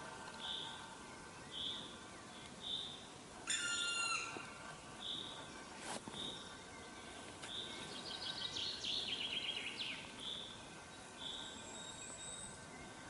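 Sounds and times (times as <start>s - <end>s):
songbirds singing: 0.0s - 13.0s.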